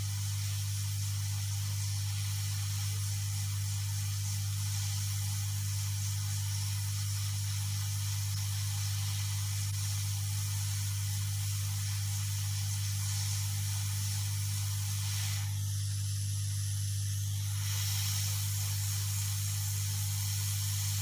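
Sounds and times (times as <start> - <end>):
hot air blower hissing: 0.0 - 21.0
low electrical hum: 0.0 - 21.0.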